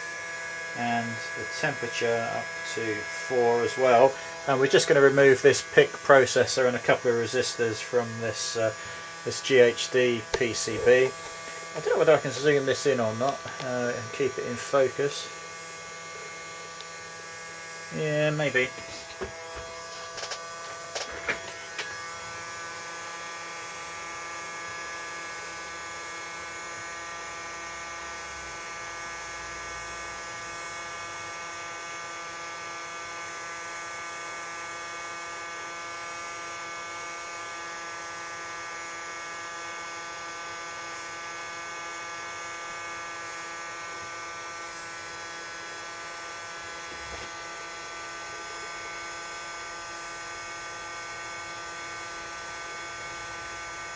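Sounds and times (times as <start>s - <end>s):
hot air gun fan whine: 0.0s - 53.9s.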